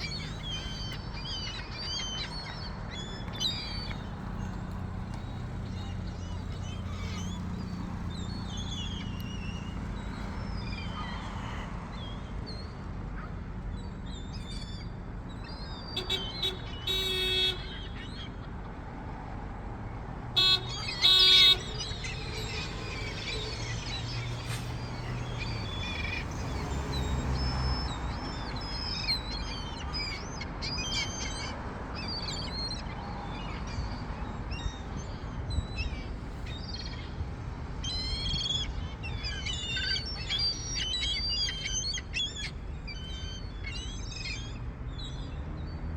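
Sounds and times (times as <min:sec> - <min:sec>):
seagulls calling: 0:00.0 - 0:19.1, 0:20.2 - 0:45.2.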